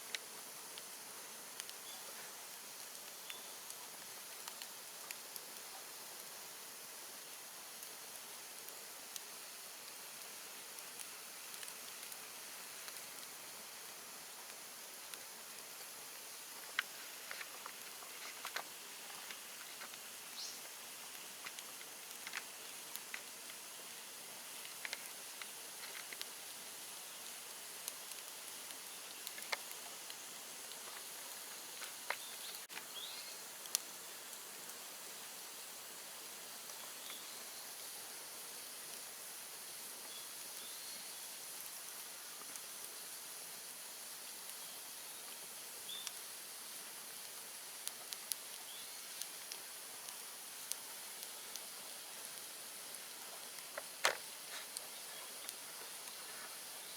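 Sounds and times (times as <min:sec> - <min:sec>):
bonfire crackling: 0:00.0 - 0:56.9
fire hissing: 0:00.0 - 0:56.9.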